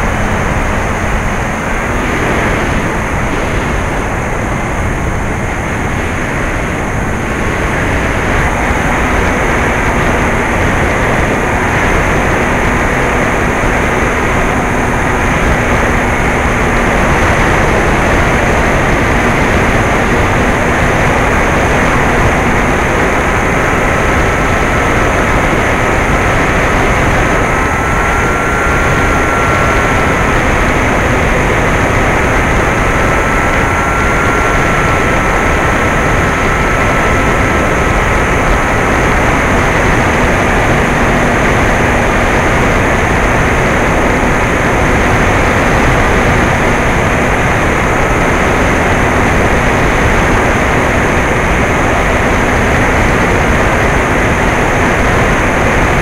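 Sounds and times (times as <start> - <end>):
air rushing over camera: 0.0 - 56.0
electric motor whine: 0.0 - 56.0.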